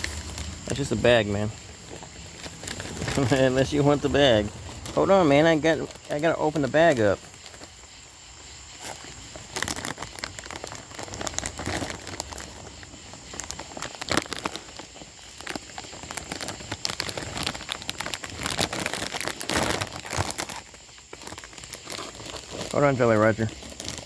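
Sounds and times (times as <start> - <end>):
plastic snack bag crinkling: 0.0 - 24.0.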